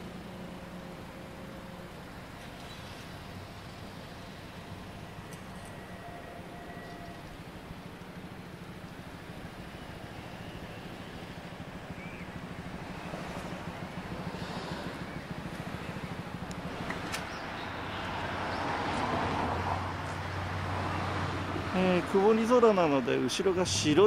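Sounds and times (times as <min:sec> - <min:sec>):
road traffic: 0:00.0 - 0:24.0
vehicle approaching: 0:00.0 - 0:24.0.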